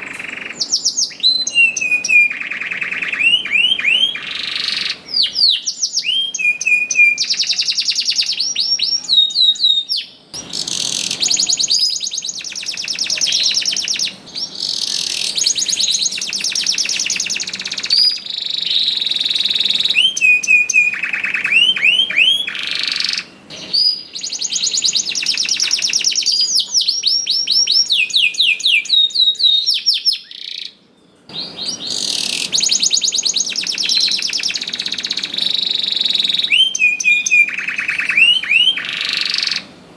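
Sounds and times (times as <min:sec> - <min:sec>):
canary singing trills: 0:00.0 - 0:39.8.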